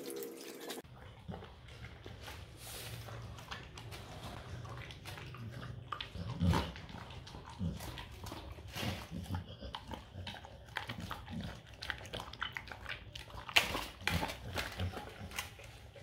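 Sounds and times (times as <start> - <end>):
dog chomping and lapping food: 0.8 - 16.0.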